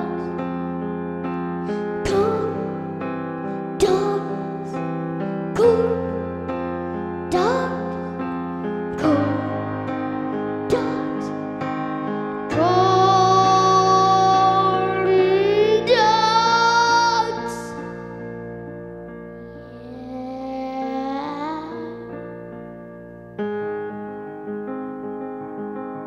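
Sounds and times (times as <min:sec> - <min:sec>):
high wordless melody: 0:00.0 - 0:26.0
piano chords: 0:00.0 - 0:26.0.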